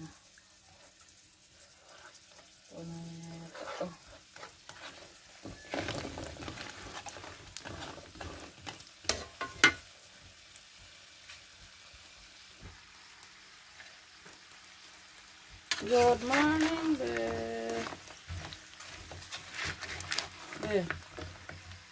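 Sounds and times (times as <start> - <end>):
food sizzling in hot oil: 0.0 - 21.9.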